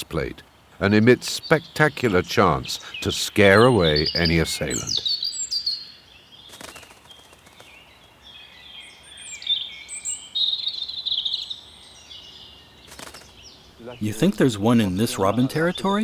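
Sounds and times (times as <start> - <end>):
robin singing: 0.0 - 16.0.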